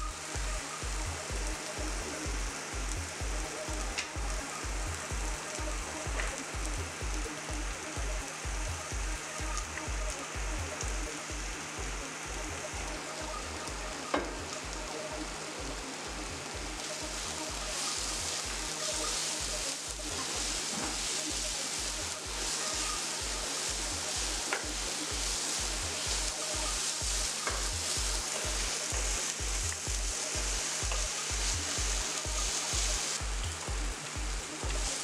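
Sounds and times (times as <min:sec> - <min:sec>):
vegetables sizzling in hot oil: 0:00.0 - 0:35.0
spatula stirring in a pan: 0:00.1 - 0:35.0.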